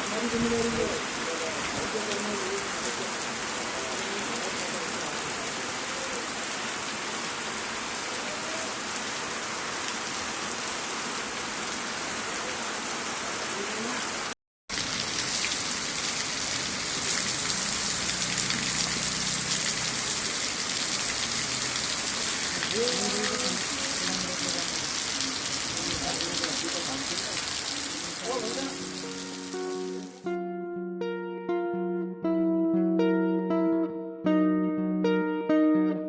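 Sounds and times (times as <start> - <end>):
heavy rain falling: 0.0 - 30.2.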